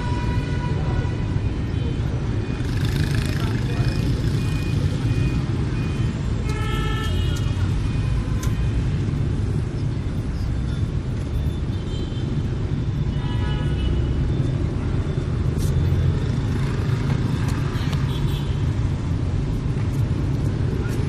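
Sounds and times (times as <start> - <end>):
city street traffic rumble: 0.0 - 21.0
motorbikes and cars passing: 0.0 - 21.0.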